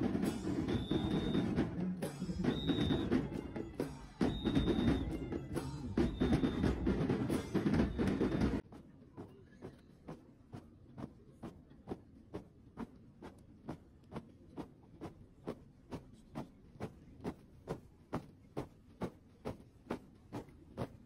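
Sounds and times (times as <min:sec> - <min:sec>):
marching footsteps thumping: 0:00.0 - 0:21.0.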